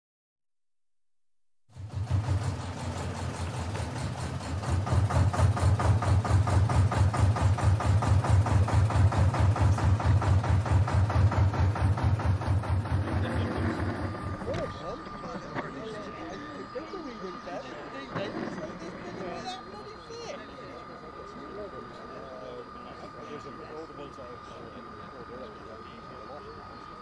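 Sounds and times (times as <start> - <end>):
engine idling: 1.7 - 27.0.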